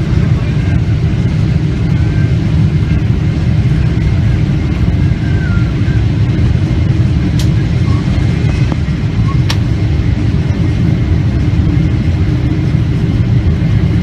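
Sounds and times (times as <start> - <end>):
aircraft cabin engine rumble: 0.0 - 14.0.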